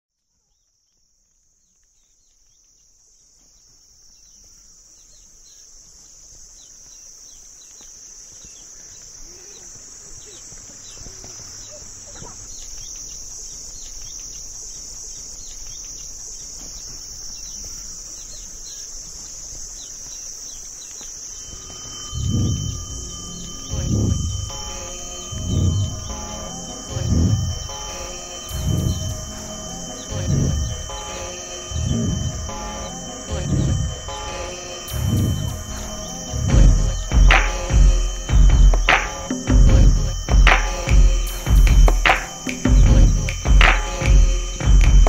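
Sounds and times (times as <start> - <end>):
insects high shrill drone: 3.5 - 45.0.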